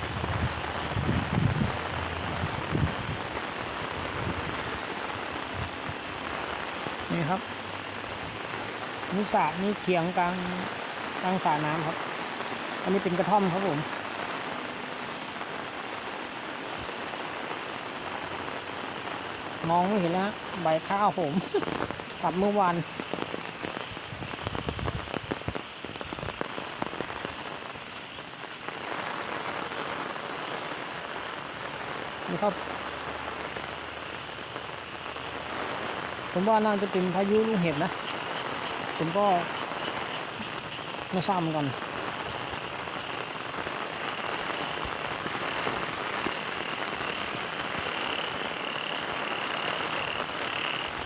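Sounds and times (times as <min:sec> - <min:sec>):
heavy rain falling: 0:00.0 - 0:51.0
frogs trilling: 0:08.6 - 0:51.0.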